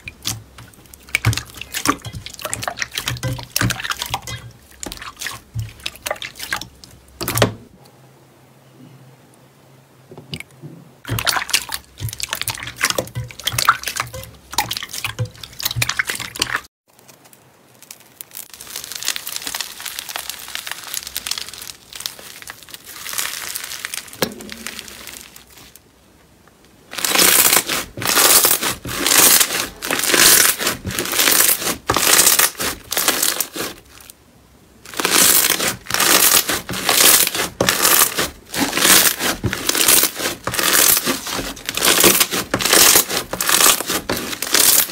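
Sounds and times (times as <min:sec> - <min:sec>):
slime squeezed crackling: 0:00.0 - 0:07.4, 0:11.1 - 0:25.8, 0:26.9 - 0:34.1, 0:34.8 - 0:44.9.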